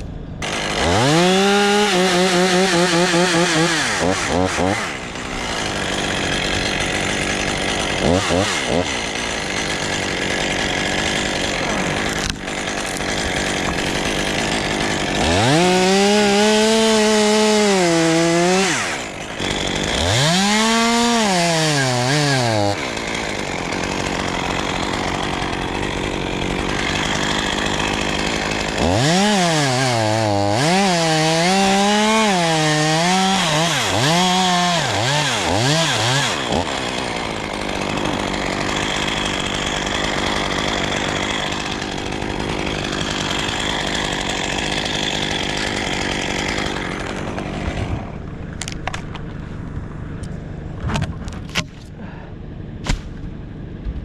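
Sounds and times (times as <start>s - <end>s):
chainsaw revving: 0.4s - 49.2s.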